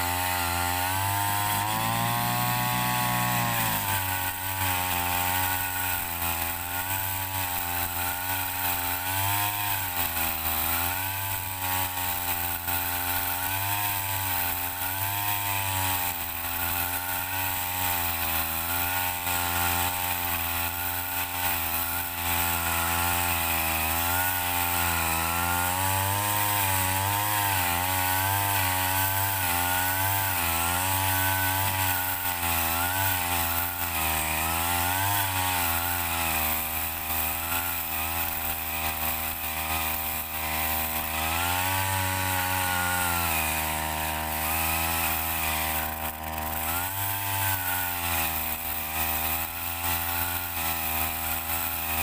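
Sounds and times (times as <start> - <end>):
chainsaw engine cutting wood: 0.0 - 52.0.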